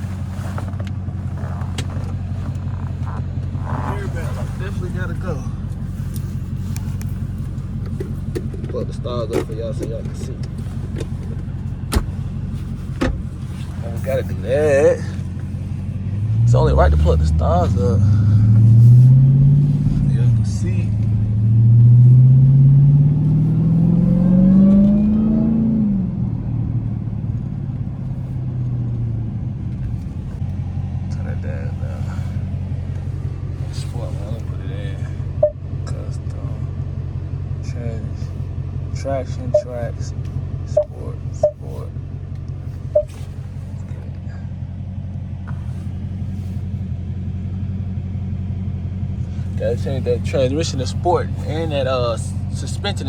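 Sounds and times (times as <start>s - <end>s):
car engine revving and idling: 0.0s - 53.0s.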